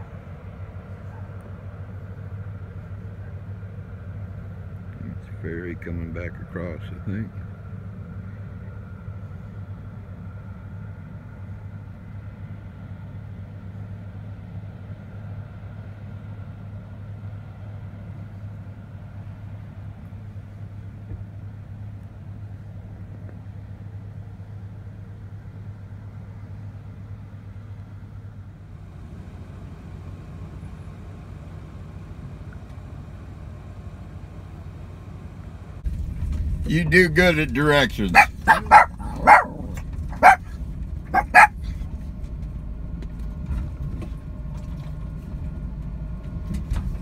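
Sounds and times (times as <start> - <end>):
vehicle engine idling: 0.0 - 47.0.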